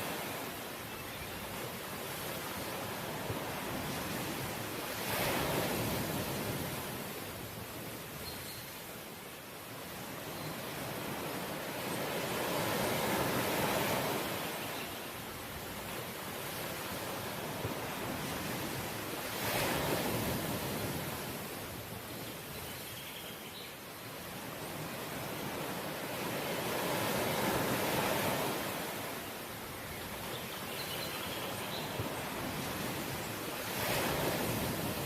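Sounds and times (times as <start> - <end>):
sea waves on a shore: 0.0 - 35.0.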